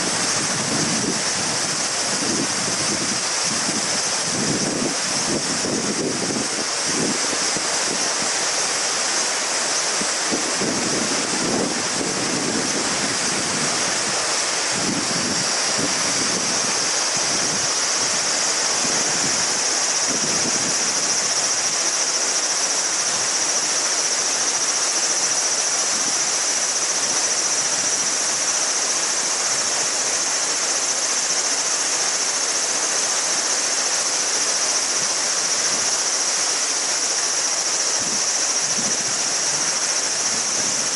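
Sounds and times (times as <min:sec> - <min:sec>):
cicadas buzzing: 0:00.0 - 0:40.9
river rushing over stones: 0:00.0 - 0:40.9.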